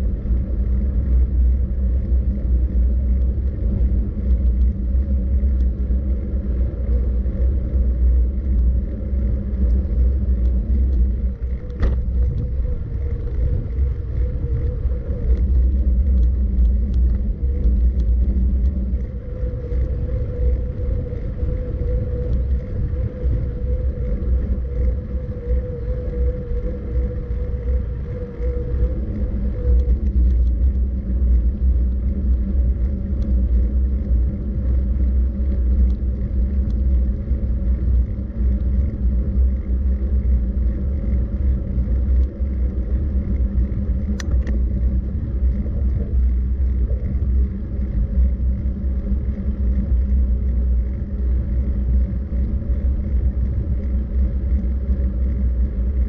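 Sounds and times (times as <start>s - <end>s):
wind and road rumble: 0.0s - 56.0s.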